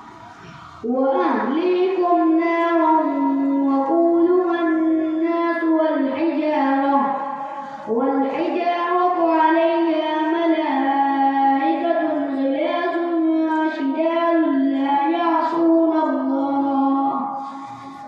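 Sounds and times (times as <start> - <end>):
boy chanting melodically: 0.8 - 18.0.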